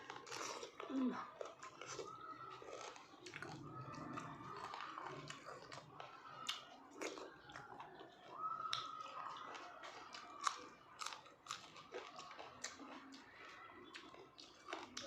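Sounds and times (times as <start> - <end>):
chewing and biting on meat: 0.0 - 15.0.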